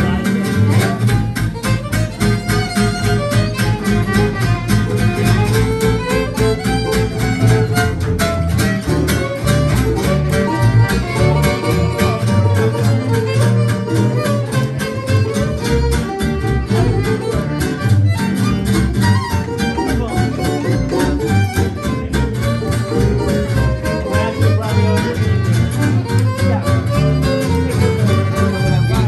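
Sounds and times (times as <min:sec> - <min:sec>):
fiddle melody: 0:00.0 - 0:29.0
strummed acoustic guitars: 0:00.0 - 0:29.0.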